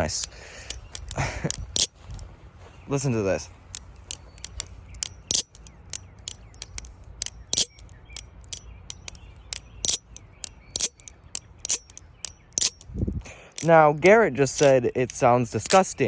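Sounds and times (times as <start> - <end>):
balisong handles clacking: 0.0 - 16.0.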